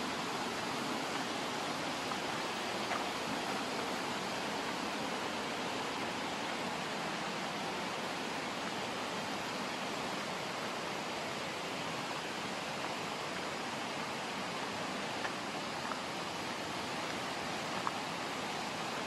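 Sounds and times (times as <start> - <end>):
river rushing over rapids: 0.0 - 19.0.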